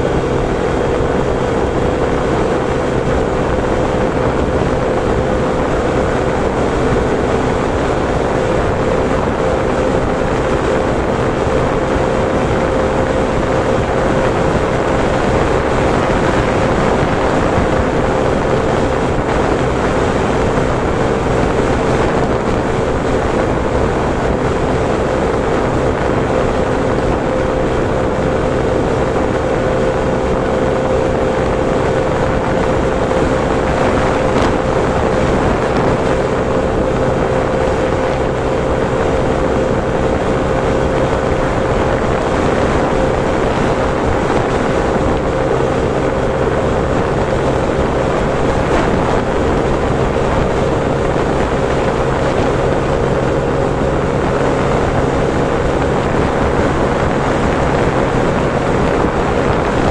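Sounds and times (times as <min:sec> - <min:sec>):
motorcycle engine cruising: 0:00.0 - 0:59.9
wind on microphone: 0:00.0 - 0:59.9.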